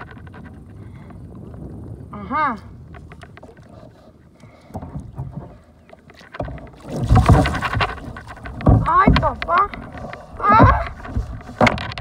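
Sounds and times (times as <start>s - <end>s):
water splashing around kayak: 0.0s - 12.0s.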